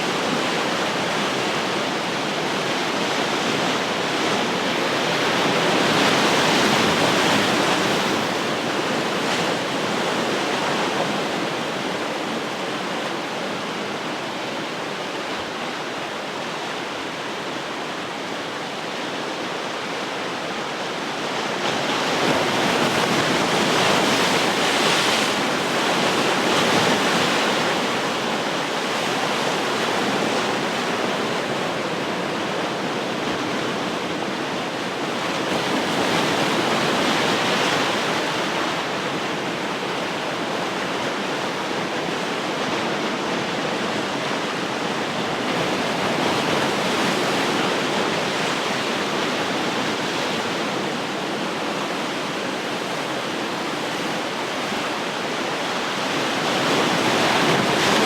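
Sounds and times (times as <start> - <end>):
ocean surf washing: 0.0 - 58.0
wind: 0.0 - 58.0.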